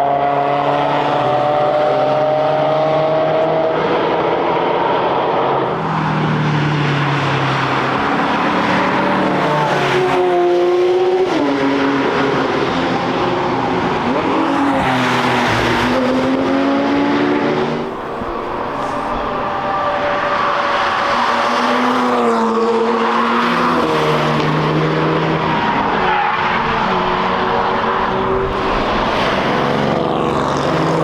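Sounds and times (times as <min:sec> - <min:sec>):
race cars accelerating past: 0:00.0 - 0:31.0.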